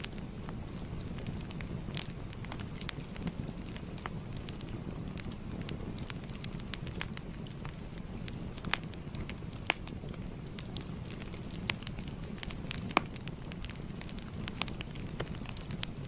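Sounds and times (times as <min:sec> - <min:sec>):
wood fire crackling: 0:00.0 - 0:16.0
fire popping: 0:00.1 - 0:16.0.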